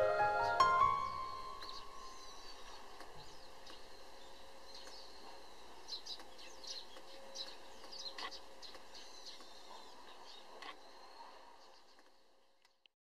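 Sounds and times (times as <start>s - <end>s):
faint background noise: 0.0s - 12.9s
small birds chirping: 0.0s - 12.9s.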